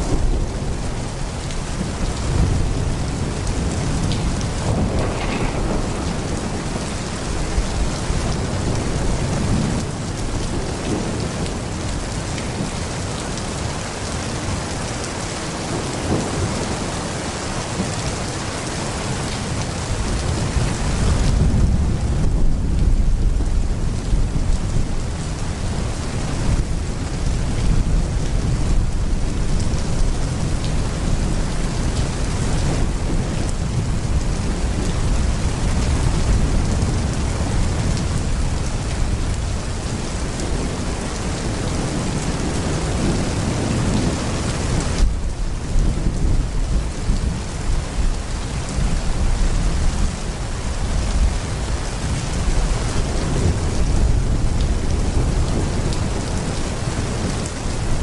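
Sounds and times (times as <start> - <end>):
heavy rain pouring: 0.0 - 58.0
low rolling thunder: 0.0 - 58.0.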